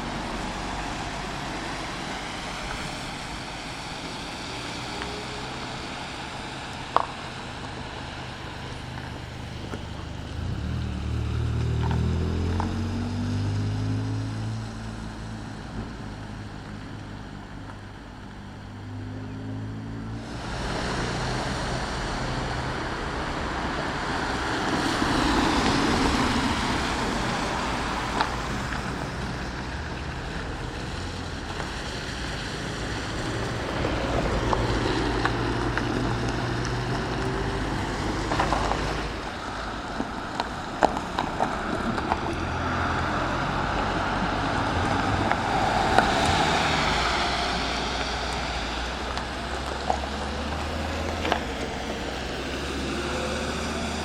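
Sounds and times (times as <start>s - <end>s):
heavy vehicle engine hum: 0.0s - 54.0s
tyre and road noise: 0.0s - 54.0s.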